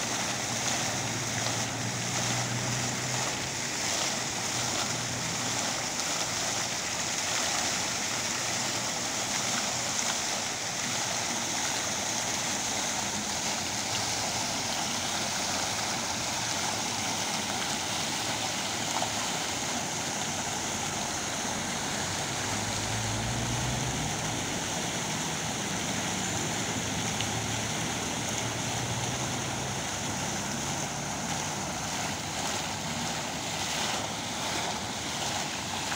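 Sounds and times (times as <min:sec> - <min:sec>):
fountain water splashing: 0:00.0 - 0:35.9.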